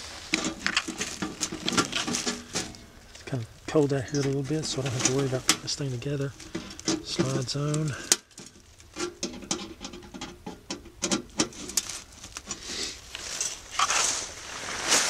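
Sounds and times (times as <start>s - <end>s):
dry leaves rustling: 0.0s - 10.2s, 11.2s - 15.0s
light metal clicks and scrapes: 0.3s - 14.3s.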